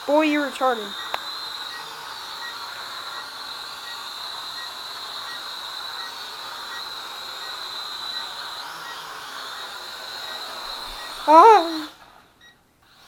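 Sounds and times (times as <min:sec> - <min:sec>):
toy drone propellers whirring: 0:00.0 - 0:13.0.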